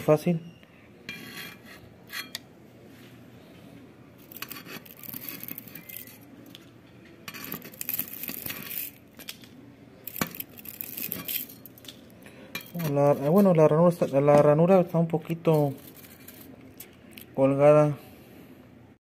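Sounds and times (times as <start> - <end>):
wire scraping and rustling: 1.1 - 3.3, 4.2 - 17.4.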